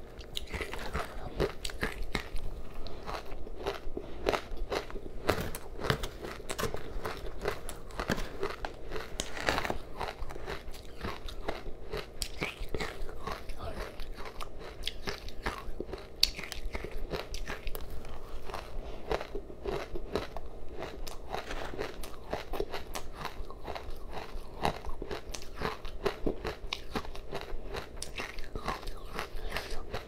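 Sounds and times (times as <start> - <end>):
chewing crunchy ice: 0.1 - 30.0.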